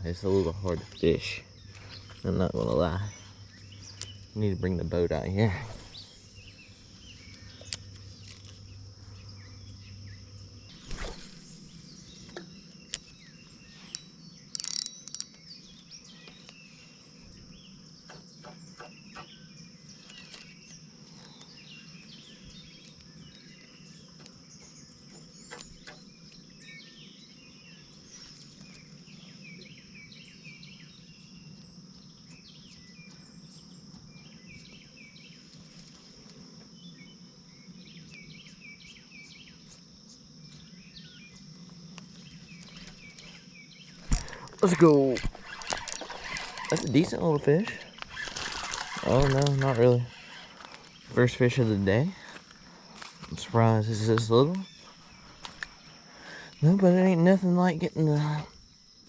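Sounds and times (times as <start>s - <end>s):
birds chirping: 0.0s - 59.0s
high-pitched insect drone: 0.0s - 59.0s.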